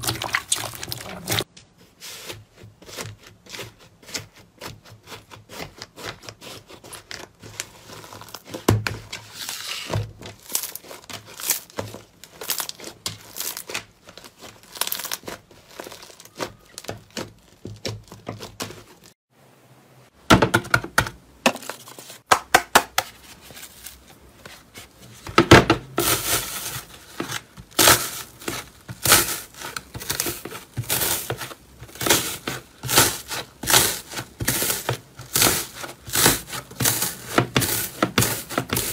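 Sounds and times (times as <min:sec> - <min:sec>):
crunchy material crackling by hand: 0:00.0 - 0:19.2, 0:23.1 - 0:38.9.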